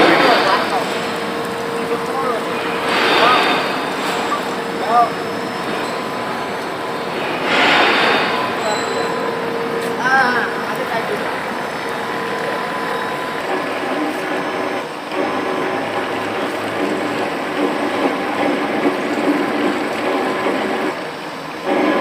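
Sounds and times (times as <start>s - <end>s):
metal-cutting circular saw running: 0.0s - 21.0s.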